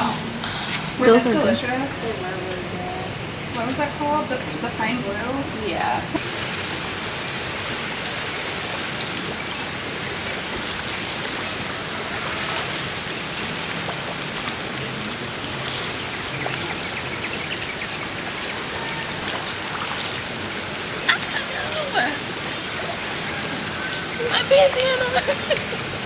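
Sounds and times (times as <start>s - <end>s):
falling splashing water: 3.4s - 26.0s.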